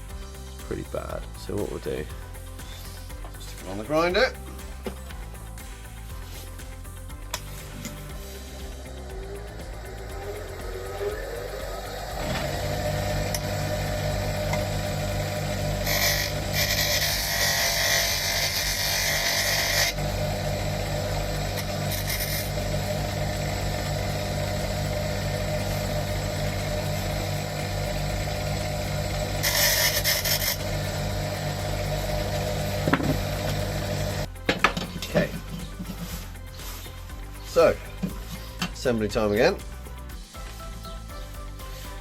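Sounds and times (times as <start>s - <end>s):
grinder motor running: 0.0s - 40.8s.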